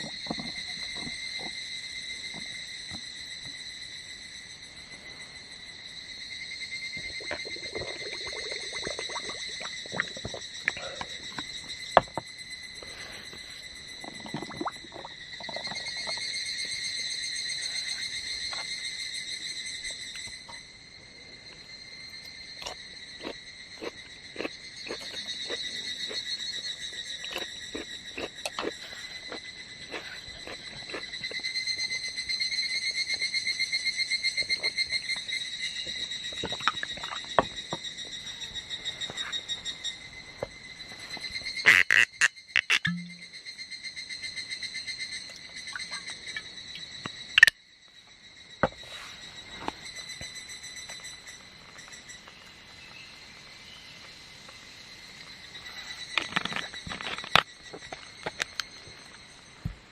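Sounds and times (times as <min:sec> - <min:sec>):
cicadas singing in chorus: 0:00.0 - 0:59.9.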